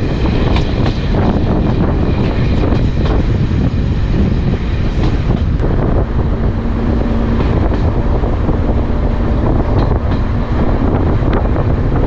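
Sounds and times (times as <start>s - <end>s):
train rumbling on track: 0.0s - 12.0s
wind on microphone: 0.0s - 12.0s.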